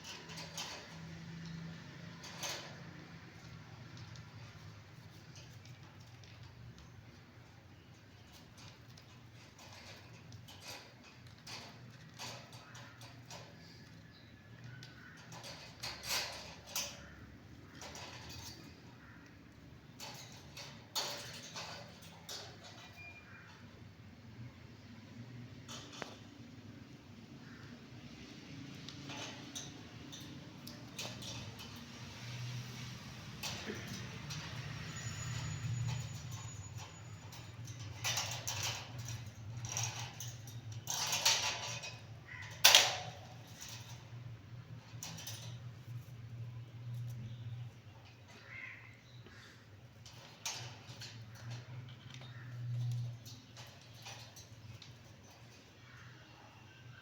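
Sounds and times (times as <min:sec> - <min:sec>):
parrot shuffling and scratching: 0:00.0 - 0:23.6, 0:28.6 - 0:56.1.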